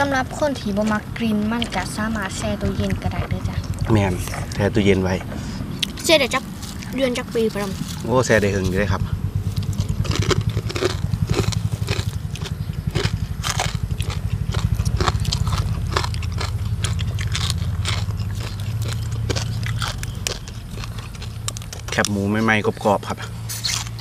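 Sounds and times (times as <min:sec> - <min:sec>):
chewing and crunching food: 0:00.3 - 0:04.8, 0:05.7 - 0:24.0
low rumble: 0:01.9 - 0:22.0.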